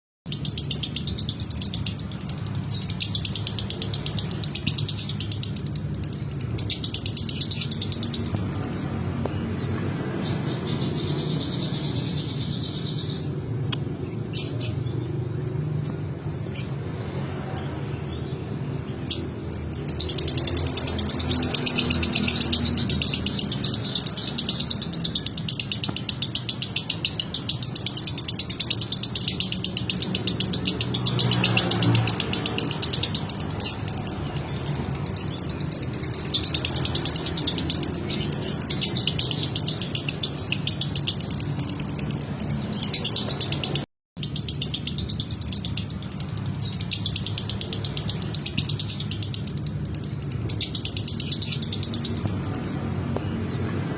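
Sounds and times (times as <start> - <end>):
lovebird chirping: 0.3 - 53.9.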